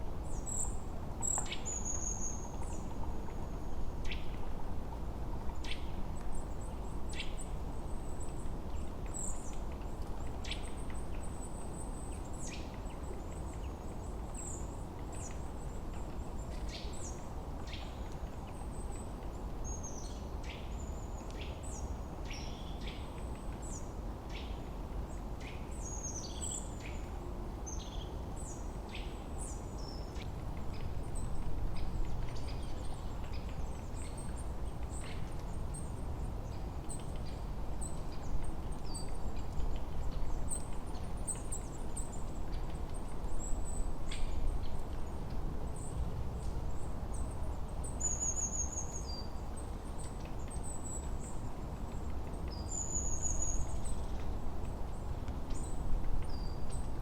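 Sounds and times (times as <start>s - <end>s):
low rumble of wind: 0.0s - 57.0s
songbirds chirping: 5.5s - 57.0s.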